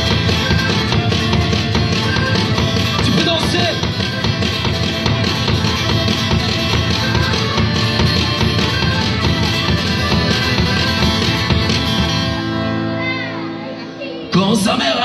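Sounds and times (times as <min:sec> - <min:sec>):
steady percussive beat: 0:00.0 - 0:12.7
acoustic band playing: 0:00.0 - 0:15.0.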